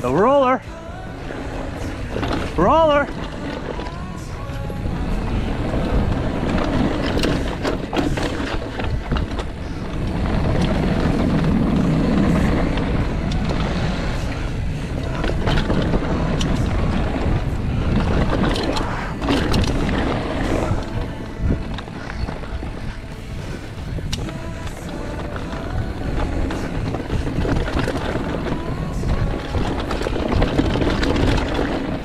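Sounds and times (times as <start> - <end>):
bike chain and frame clattering: 0.0 - 32.0
tyre and wind rush: 0.0 - 32.0.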